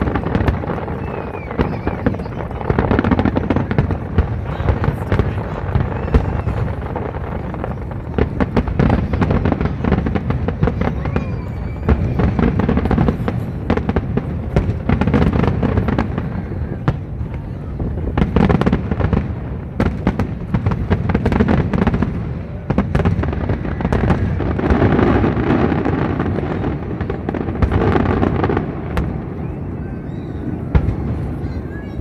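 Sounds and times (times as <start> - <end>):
fireworks crackling and booming: 0.0 - 32.0.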